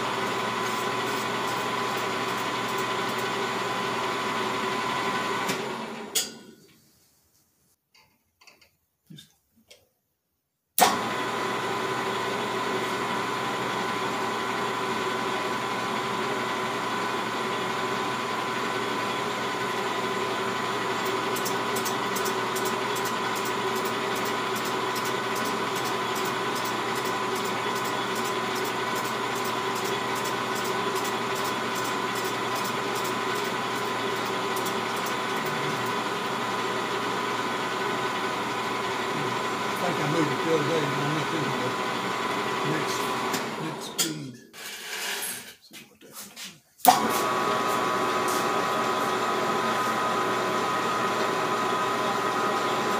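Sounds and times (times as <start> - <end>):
lathe motor and gear whine: 0.0 - 6.1, 10.8 - 44.0, 46.9 - 52.9.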